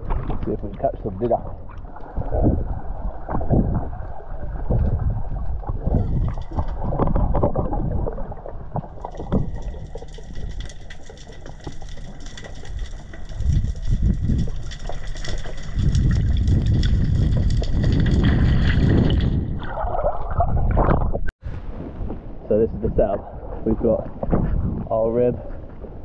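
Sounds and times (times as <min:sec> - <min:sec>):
muffled underwater sloshing: 0:00.0 - 0:26.0.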